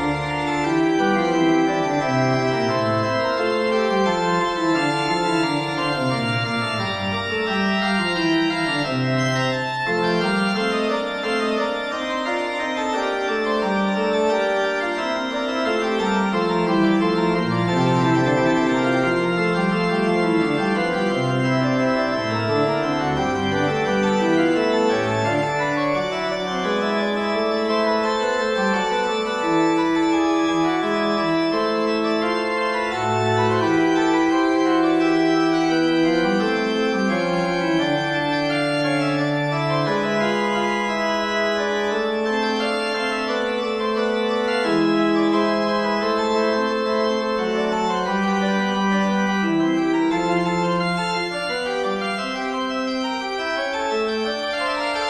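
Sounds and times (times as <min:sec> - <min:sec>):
organ music: 0:00.0 - 0:55.0.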